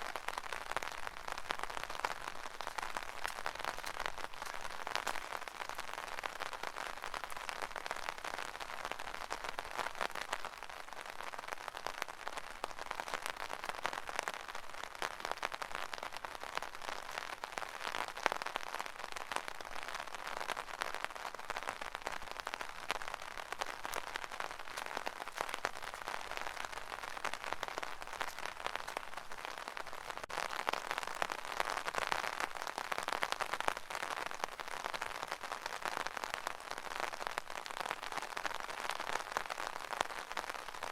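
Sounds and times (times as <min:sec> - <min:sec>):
rain pattering on an umbrella: 0:00.0 - 0:40.9.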